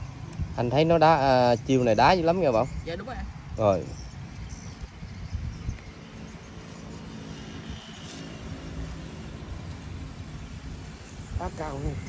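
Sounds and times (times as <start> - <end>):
faint engine hum: 0.0 - 12.0
road traffic rumble: 0.0 - 12.0.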